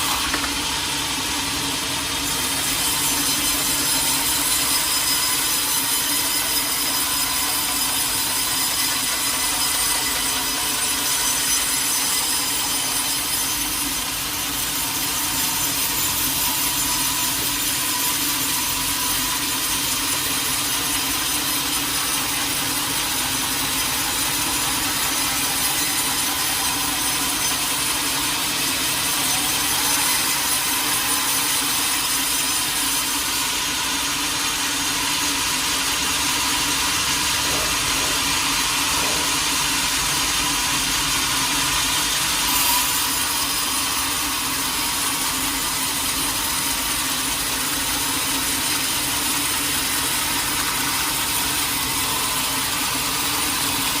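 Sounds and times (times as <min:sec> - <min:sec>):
sawmill blade cutting log: 0:00.0 - 0:54.0.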